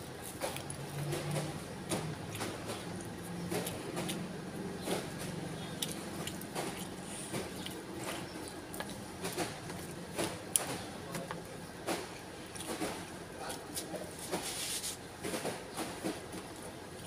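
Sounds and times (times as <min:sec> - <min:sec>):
man chewing: 0:00.0 - 0:13.9.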